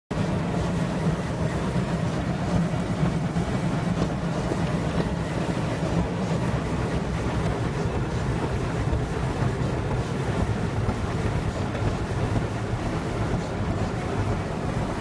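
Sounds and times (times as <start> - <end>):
low hum: 0.1 - 15.0
water spray rushing on car: 0.1 - 15.0.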